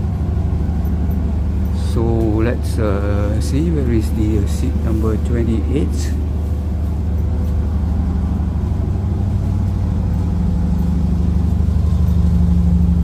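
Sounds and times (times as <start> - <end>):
diesel engine low drone: 0.0 - 13.0.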